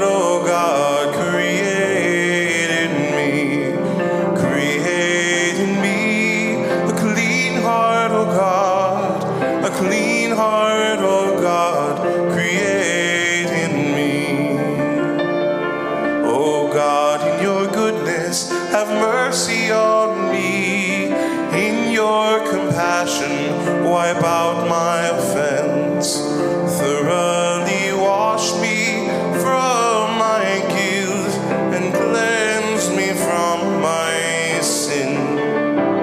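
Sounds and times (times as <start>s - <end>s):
church singing with accompaniment: 0.0s - 36.0s.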